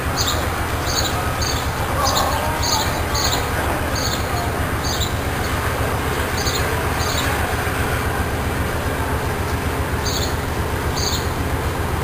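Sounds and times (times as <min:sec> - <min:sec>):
train cars rumbling: 0:00.0 - 0:12.0.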